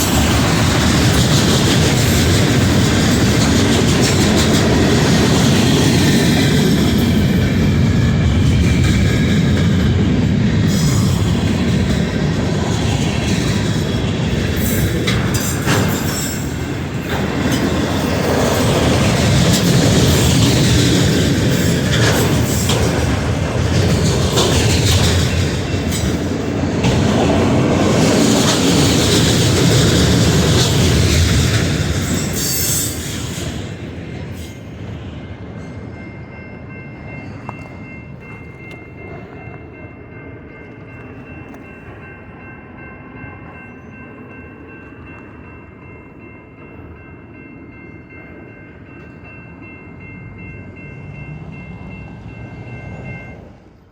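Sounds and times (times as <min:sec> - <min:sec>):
freight train cars rolling on rails: 0:00.0 - 0:53.9.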